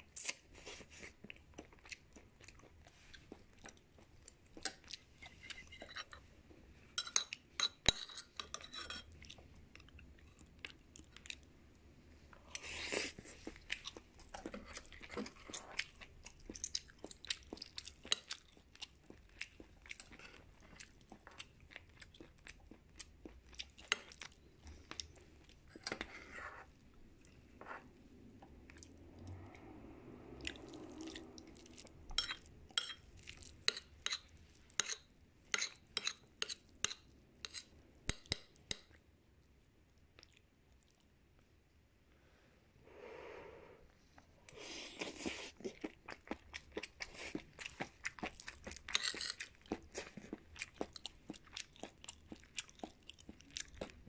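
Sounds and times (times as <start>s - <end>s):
close chewing and crunching: 0.0s - 6.3s, 7.2s - 11.6s, 12.4s - 27.6s, 30.4s - 41.4s, 44.5s - 54.0s.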